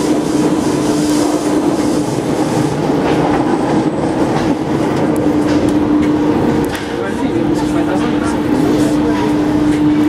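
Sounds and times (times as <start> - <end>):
wheel-on-rail noise: 0.0 - 10.0.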